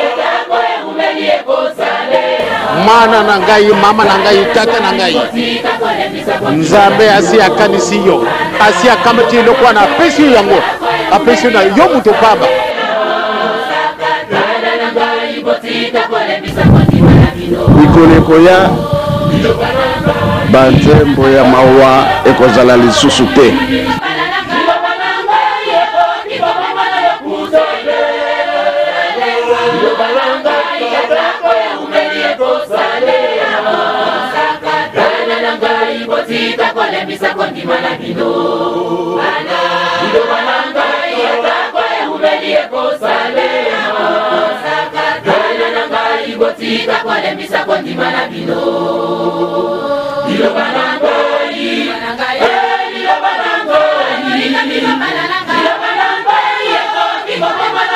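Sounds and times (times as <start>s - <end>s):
choir singing gospel song: 0.0s - 57.9s.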